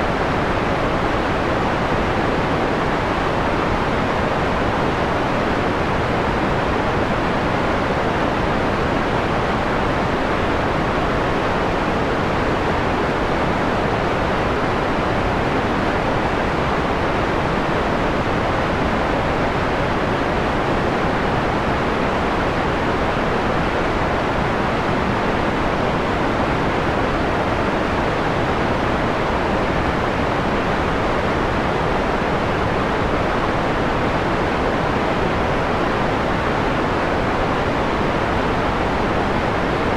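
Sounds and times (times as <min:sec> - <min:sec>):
mellow filtered white noise: 0:00.0 - 0:39.9.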